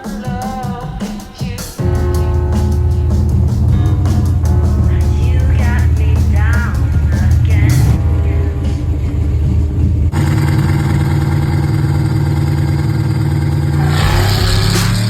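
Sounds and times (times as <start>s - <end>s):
race car engine running: 1.8s - 15.0s.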